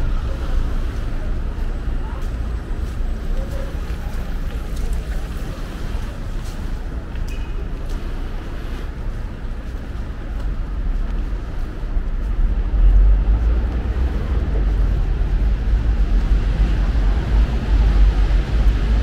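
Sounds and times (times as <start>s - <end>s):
passing road traffic rumble: 0.0s - 19.0s.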